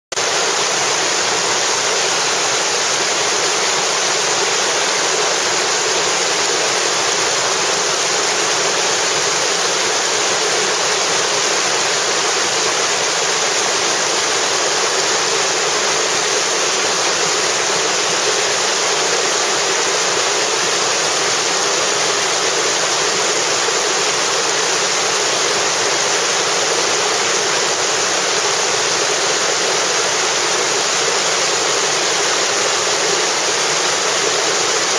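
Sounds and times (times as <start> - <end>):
river rapids rushing: 0.2 - 34.9.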